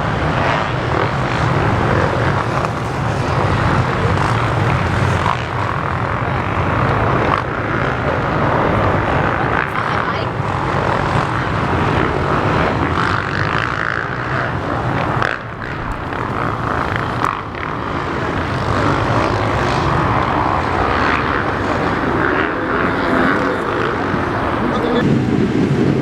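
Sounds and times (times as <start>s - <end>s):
dirt bike engines running: 0.0s - 25.9s.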